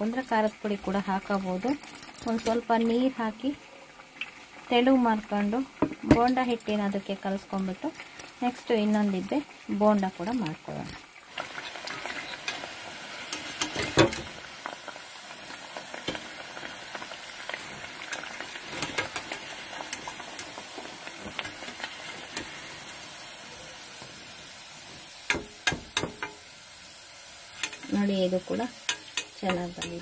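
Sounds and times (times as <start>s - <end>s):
food deep-frying in hot oil: 0.0s - 30.0s.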